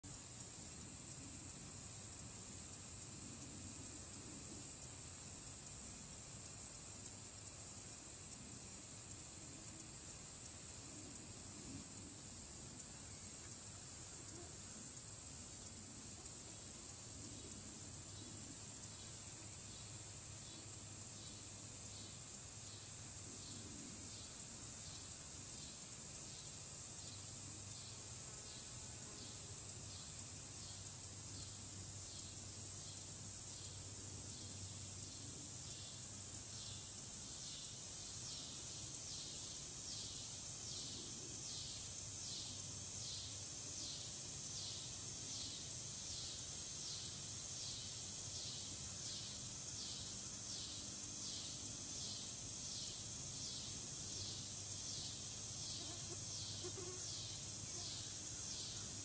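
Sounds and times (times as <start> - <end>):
insects droning: 0.0 - 59.0
pulsing insect call: 0.1 - 59.0.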